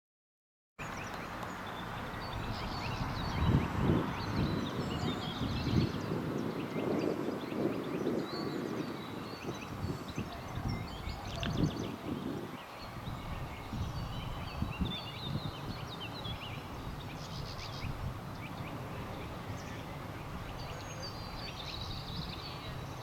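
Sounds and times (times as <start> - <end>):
small birds chirping: 0.8 - 23.0.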